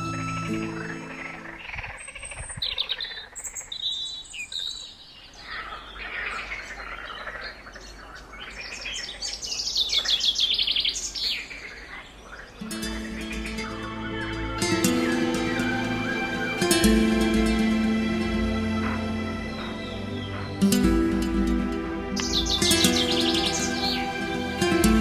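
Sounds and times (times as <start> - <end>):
birds singing: 0.0 - 25.0.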